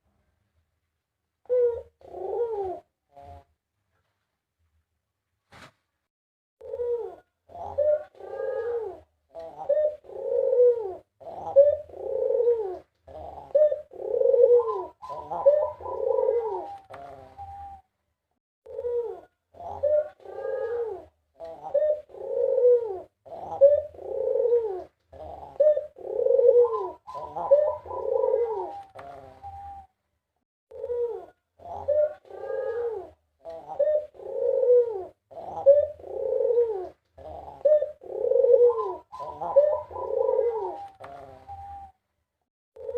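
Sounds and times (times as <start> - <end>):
dove cooing: 1.4 - 3.5, 6.6 - 17.9, 18.7 - 30.0, 30.7 - 42.0.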